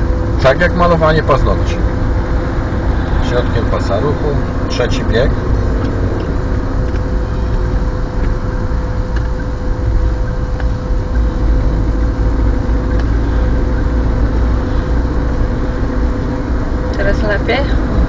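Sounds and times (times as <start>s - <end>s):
car engine and tyre rumble: 0.0s - 18.0s
faint steady whine: 0.0s - 18.0s.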